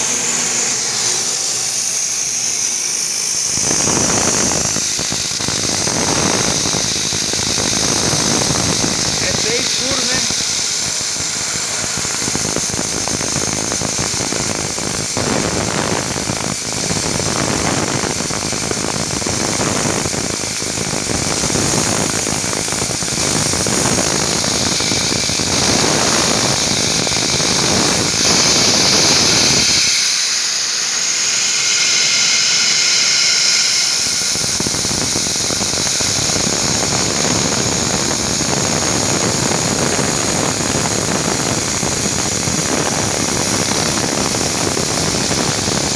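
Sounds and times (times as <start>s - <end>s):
milling machine hiss and whine: 0.0s - 45.9s.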